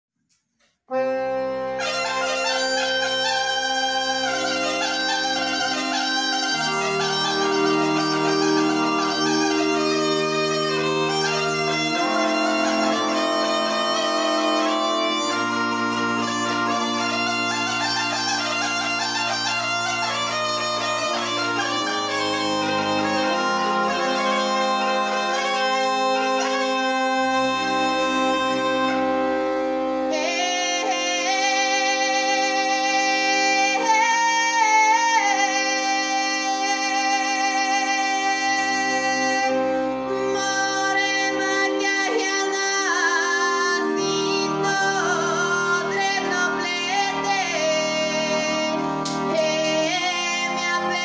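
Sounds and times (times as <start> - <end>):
wind instrument melody: 0.9 - 51.0.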